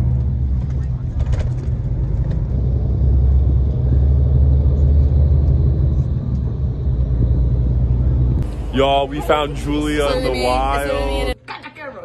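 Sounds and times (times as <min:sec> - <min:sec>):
coach engine and road noise: 0:00.0 - 0:11.4.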